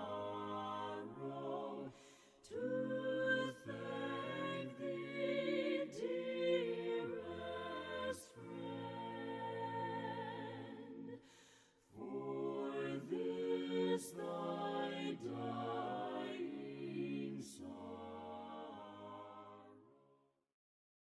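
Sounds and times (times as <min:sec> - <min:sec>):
voices singing a hymn in harmony: 0:00.0 - 0:19.8.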